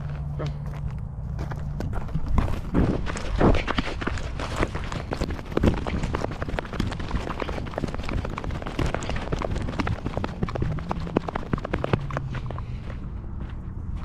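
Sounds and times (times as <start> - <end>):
footsteps running on gravel: 0.0 - 14.0.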